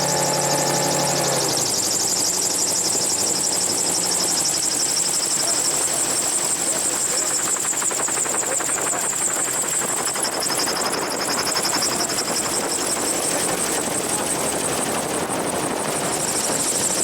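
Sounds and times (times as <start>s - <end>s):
gyroplane engine pulsing: 0.0s - 17.0s.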